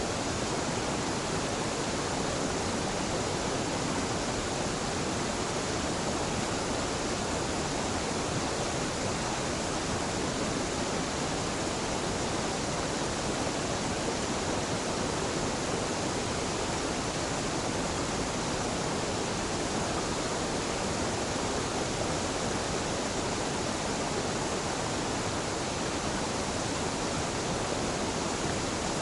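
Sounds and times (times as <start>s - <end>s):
waterfall rushing: 0.1s - 29.0s.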